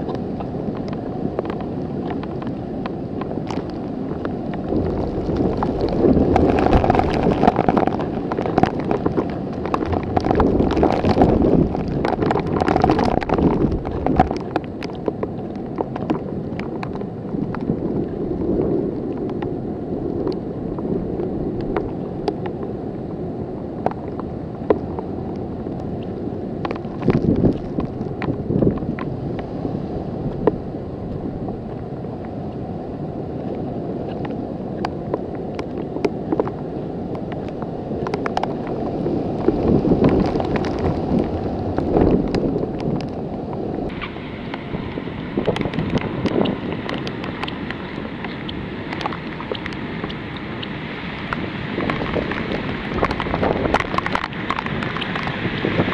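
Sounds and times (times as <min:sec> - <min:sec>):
heavy rain: 0:00.0 - 0:55.9
wind buffeting microphone: 0:00.0 - 0:55.9.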